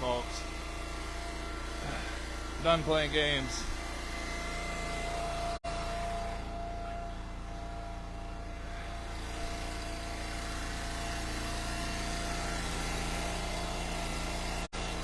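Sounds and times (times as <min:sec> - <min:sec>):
small gas engine running: 0:00.0 - 0:15.0.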